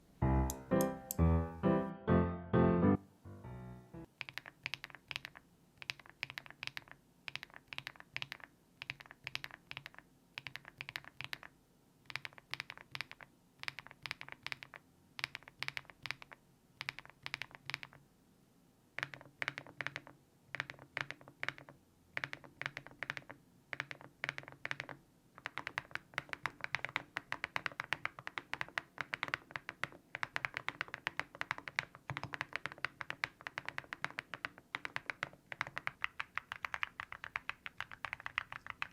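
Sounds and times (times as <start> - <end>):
mechanical keyboard typing: 4.1 - 11.5, 12.1 - 18.0, 19.0 - 38.9.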